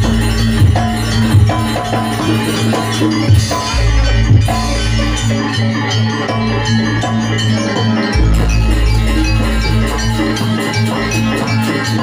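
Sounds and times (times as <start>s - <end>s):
bronze metallophones ringing: 0.0s - 12.0s
drums: 0.0s - 12.0s
gamelan music: 0.0s - 12.0s.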